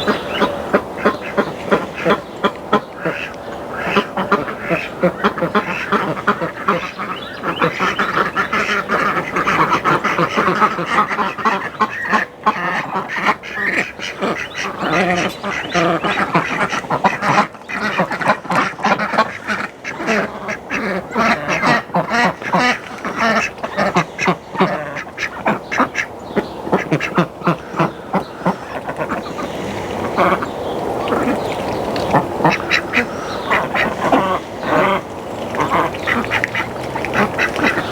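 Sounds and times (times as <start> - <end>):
ducks quacking: 0.0 - 37.9.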